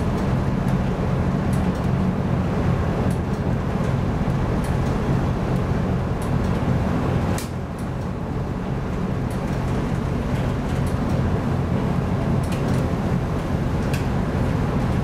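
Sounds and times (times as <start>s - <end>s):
ship engine drone: 0.0s - 15.0s
wind and sea in a storm: 0.0s - 15.0s.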